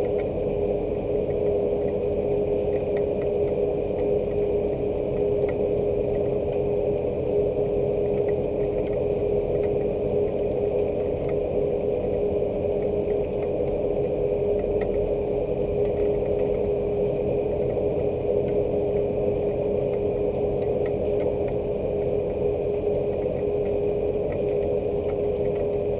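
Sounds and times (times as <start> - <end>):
dripping ticks: 0.0 - 25.9
machine hum: 0.0 - 25.9.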